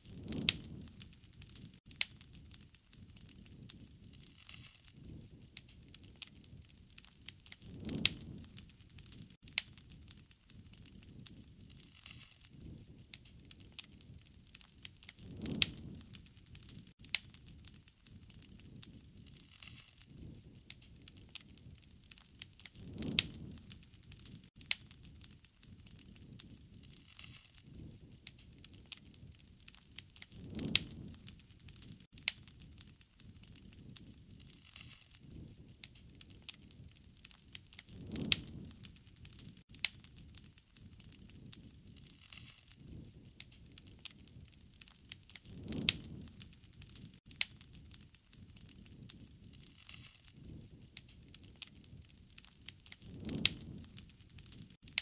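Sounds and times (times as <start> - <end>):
whoosh of flame: 0.0 - 55.0
wood fire crackling: 0.0 - 55.0.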